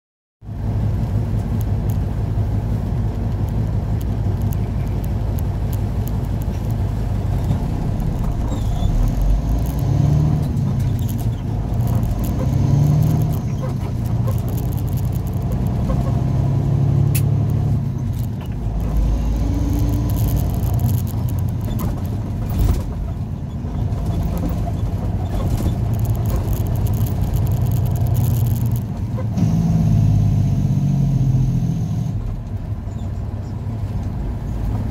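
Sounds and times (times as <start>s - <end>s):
road noise: 0.4s - 34.9s
truck engine: 0.4s - 34.9s.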